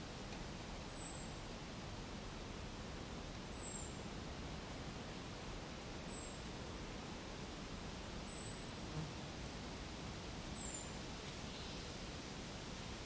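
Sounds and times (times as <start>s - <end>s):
wind through foliage: 0.0s - 13.0s.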